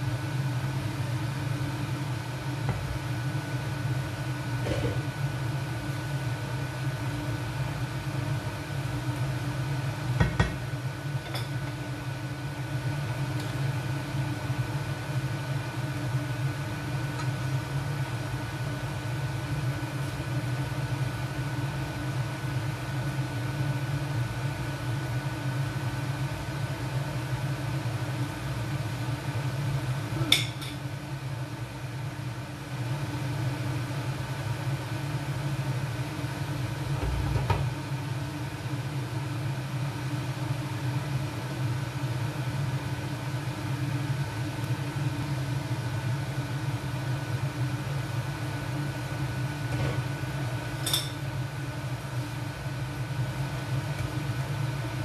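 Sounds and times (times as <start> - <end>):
appliance fan hum: 0.0 - 55.0.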